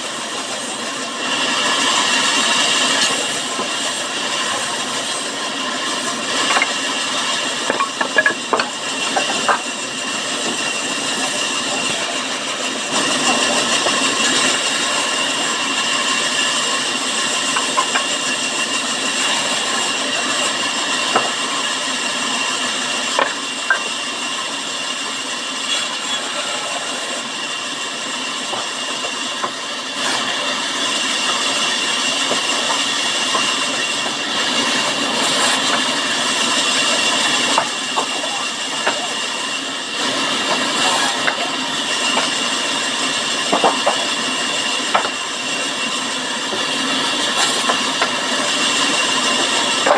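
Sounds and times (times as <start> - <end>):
sawmill saw whining: 0.0 - 49.9.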